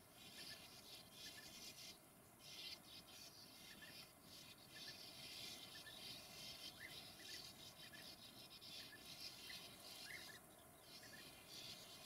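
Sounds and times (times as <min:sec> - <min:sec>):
sand martins chirping: 0:00.0 - 0:12.0
soft steady hiss: 0:00.0 - 0:12.0.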